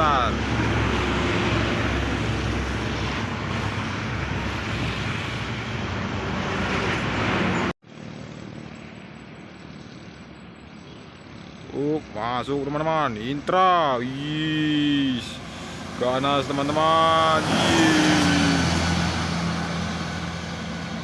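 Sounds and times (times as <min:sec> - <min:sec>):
bus passing close by: 0:00.0 - 0:10.2, 0:13.8 - 0:21.0
roadside traffic noise: 0:00.0 - 0:21.0.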